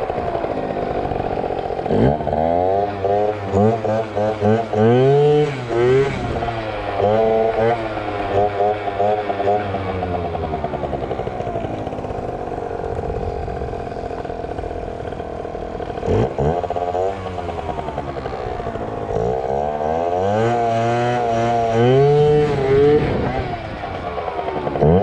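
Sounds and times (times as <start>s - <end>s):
scooter engine revving: 0.0s - 25.0s.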